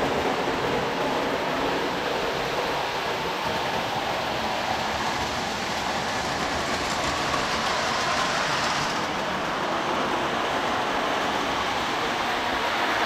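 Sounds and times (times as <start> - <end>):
toy train whirring on track: 2.1 - 13.0.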